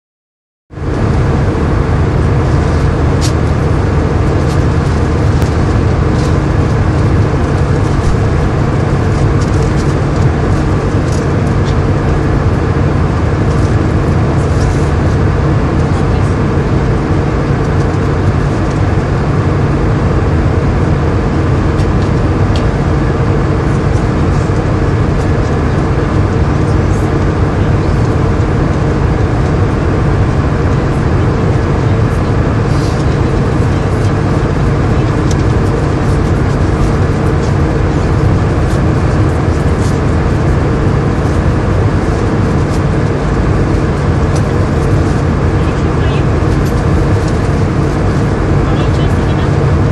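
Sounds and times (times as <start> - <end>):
airliner cabin drone: 0.7 - 49.9
low hum: 0.8 - 49.9.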